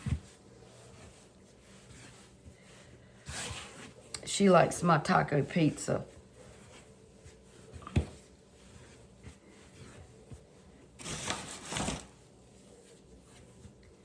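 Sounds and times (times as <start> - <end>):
dough rubbing and scraping: 0.0 - 14.0.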